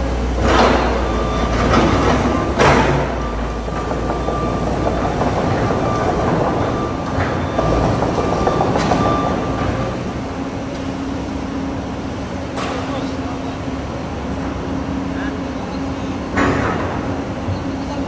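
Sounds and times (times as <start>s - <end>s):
excavator diesel engine rumble: 0.0s - 18.0s.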